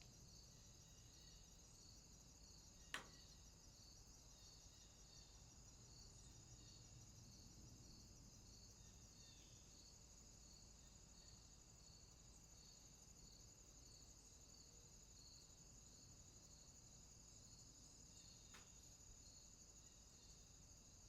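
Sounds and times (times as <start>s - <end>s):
insects trilling: 0.0s - 21.0s
soft insect chirp: 0.0s - 21.0s.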